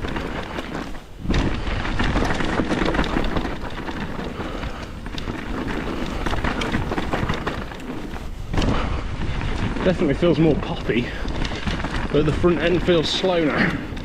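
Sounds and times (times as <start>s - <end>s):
bike knocking and rattling: 0.0s - 14.0s
tyres on dirt: 0.0s - 14.0s
wind rumbling on microphone: 0.0s - 14.0s.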